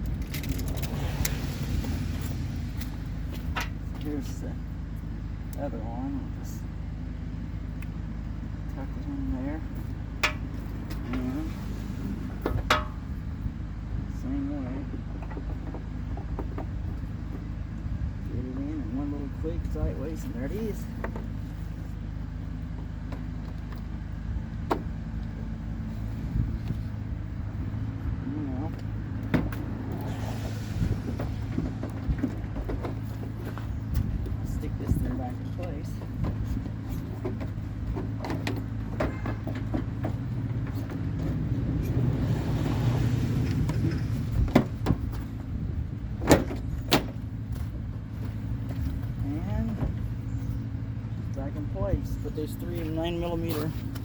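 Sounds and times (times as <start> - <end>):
engine hum: 0.0 - 54.0.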